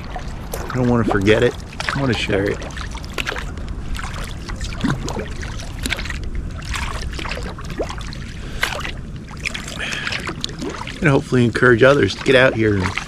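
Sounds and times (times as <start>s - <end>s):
paddle splashes and drips: 0.0s - 13.0s
steady low rumble: 0.0s - 13.0s.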